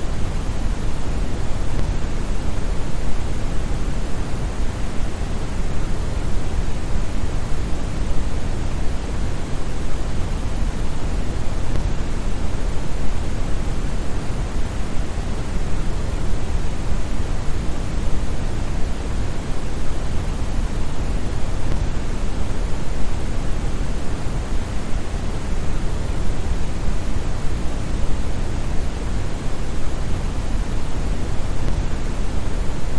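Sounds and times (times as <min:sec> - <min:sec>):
brown noise deep hiss: 0:00.0 - 0:32.9.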